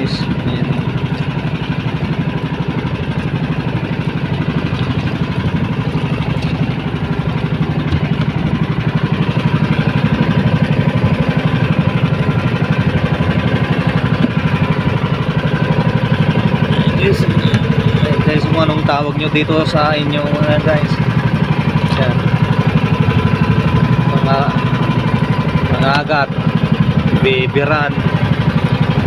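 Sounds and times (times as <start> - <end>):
small boat engine puttering: 0.0 - 29.0.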